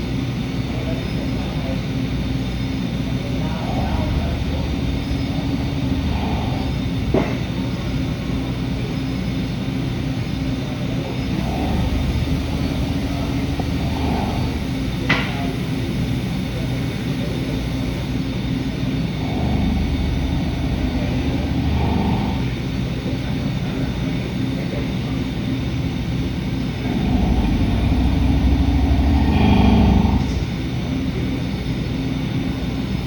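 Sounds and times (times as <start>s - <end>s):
milling machine drone: 0.0s - 33.0s.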